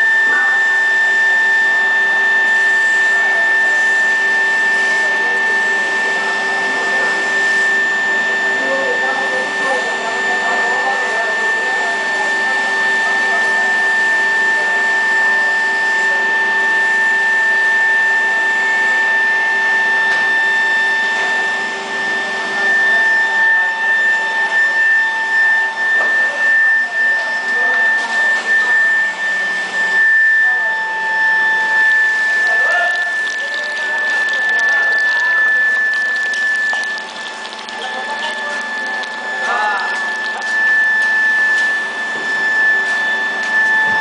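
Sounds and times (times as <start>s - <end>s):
furnace high-pitched electrical whine: 0.0s - 44.0s.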